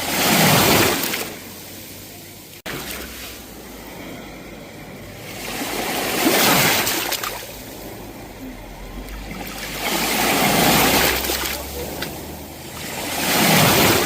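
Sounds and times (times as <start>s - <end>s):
sea waves surging: 0.0s - 14.0s.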